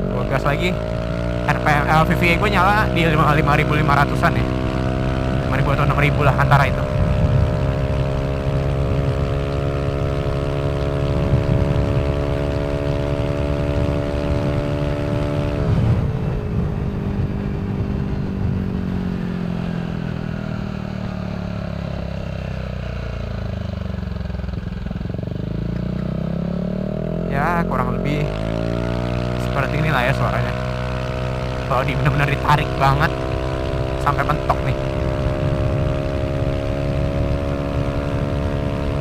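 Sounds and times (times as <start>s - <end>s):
scooter engine revving: 0.0s - 39.0s.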